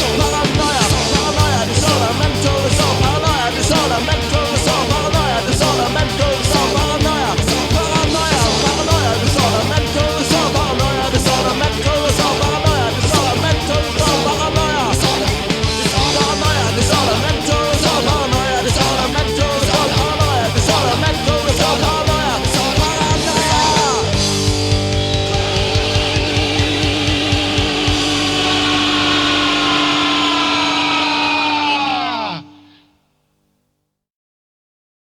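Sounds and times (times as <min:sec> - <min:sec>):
drums keeping steady beat: 0:00.0 - 0:31.1
loud punk rock band: 0:00.0 - 0:32.8.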